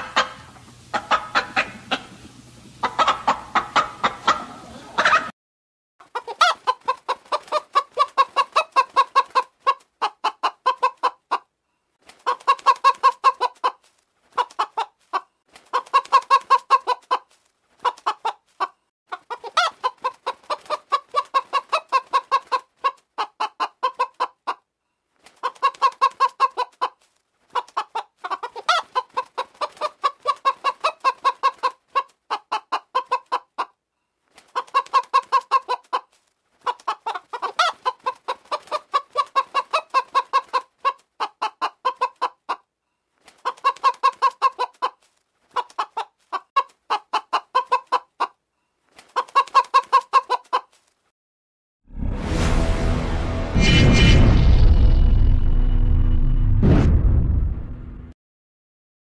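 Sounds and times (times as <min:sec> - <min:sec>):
chicken clucking: 0:00.0 - 0:05.3, 0:06.0 - 0:11.5, 0:12.1 - 0:24.7, 0:25.3 - 0:42.7, 0:43.3 - 0:51.0.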